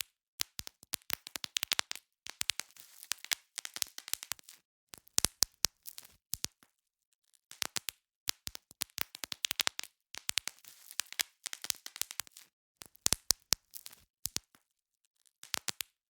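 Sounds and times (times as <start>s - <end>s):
bubble wrap popping: 0.0s - 6.7s, 7.5s - 14.6s, 15.4s - 16.0s.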